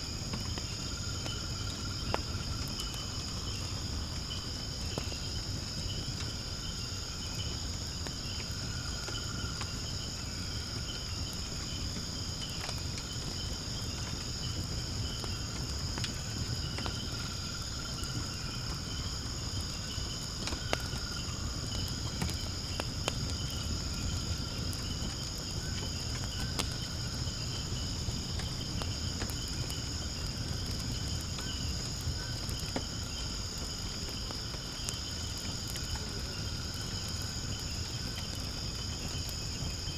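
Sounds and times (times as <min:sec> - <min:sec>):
firewood crackling and popping: 0:00.0 - 0:39.9
insects chirring: 0:00.0 - 0:39.9.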